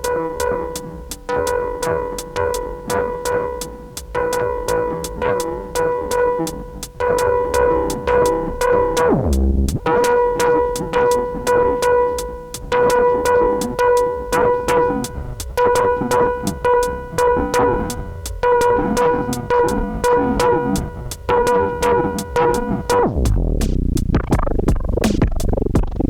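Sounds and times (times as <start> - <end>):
drum machine clicks: 0.0 - 26.0.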